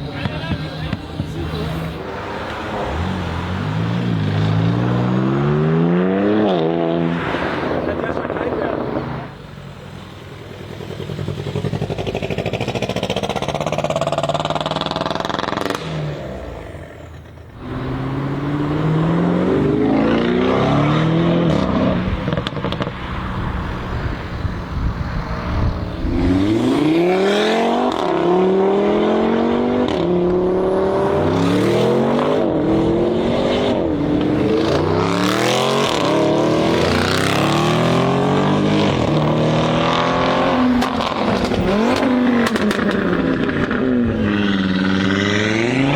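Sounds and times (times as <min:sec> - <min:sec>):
car engine revving hard: 0:00.8 - 0:09.3, 0:11.1 - 0:23.9, 0:25.2 - 0:45.9.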